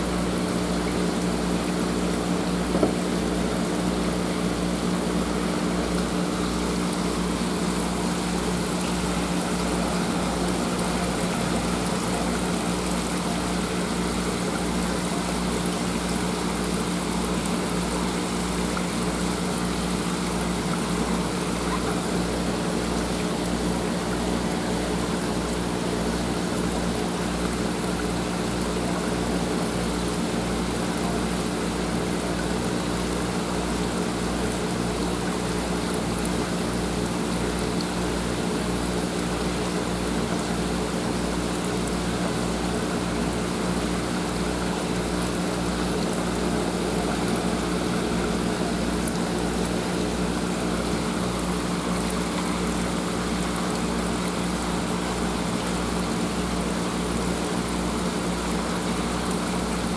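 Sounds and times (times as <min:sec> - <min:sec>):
running water trickling: 0:00.0 - 0:59.9
water pump humming: 0:00.0 - 0:59.9.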